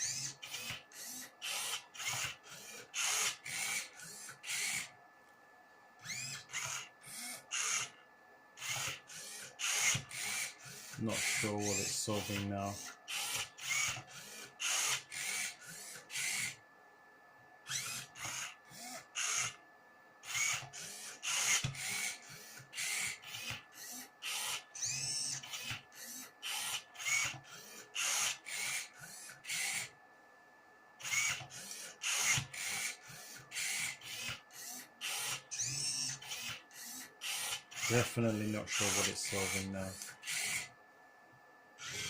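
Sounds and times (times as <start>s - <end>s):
robot motors whirring: 0.0s - 5.0s, 6.0s - 8.0s, 8.6s - 16.6s, 17.6s - 19.6s, 20.2s - 30.0s, 31.0s - 40.7s, 41.8s - 42.0s.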